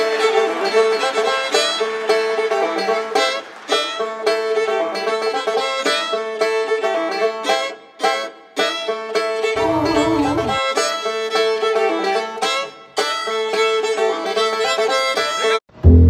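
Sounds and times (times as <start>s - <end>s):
bluegrass music with banjo and fiddle: 0.0s - 15.6s.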